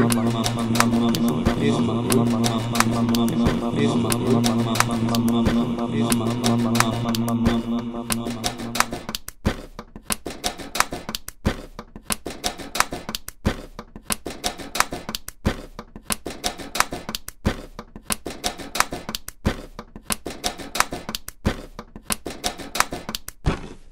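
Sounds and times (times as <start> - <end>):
rapid sharp clicks: 0.0 - 23.4.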